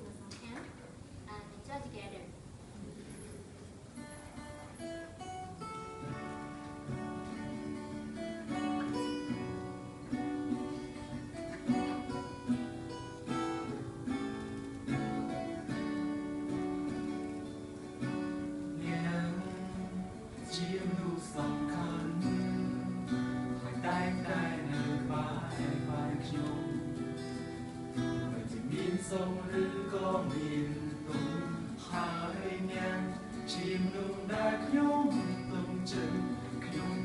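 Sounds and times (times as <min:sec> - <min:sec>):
acoustic guitar strumming and picking: 0:03.8 - 0:37.0.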